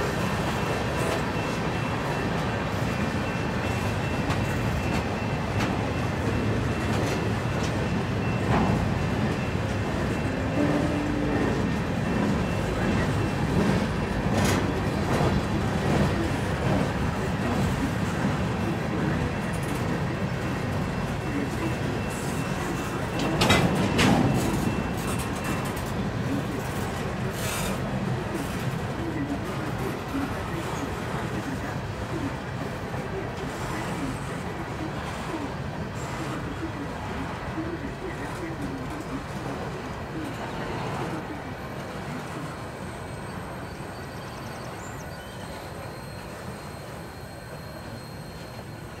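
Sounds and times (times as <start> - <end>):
freight train wheels rumbling on track: 0.0 - 49.0.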